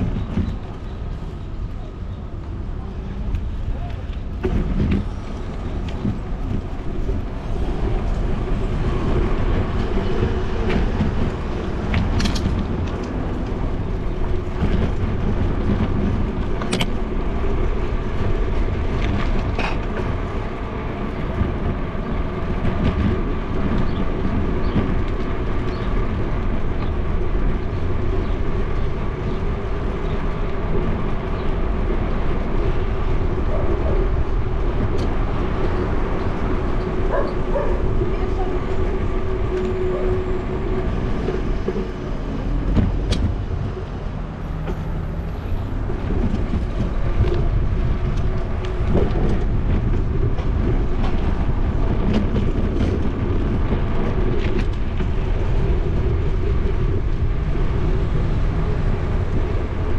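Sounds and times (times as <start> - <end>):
bicycle riding rumble: 0.0 - 59.9.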